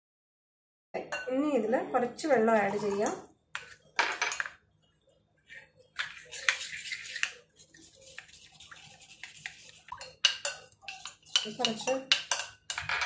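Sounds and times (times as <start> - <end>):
spoon stirring batter: 2.2 - 12.8.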